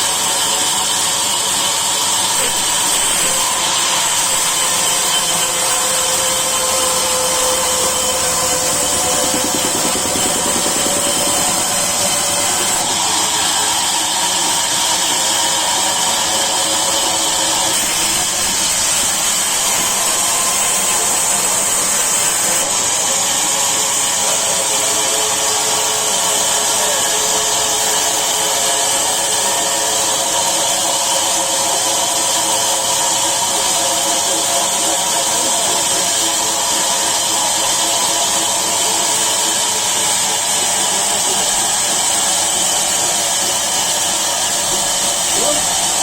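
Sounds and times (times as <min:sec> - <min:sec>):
saw cutting timber: 0:00.0 - 0:46.0.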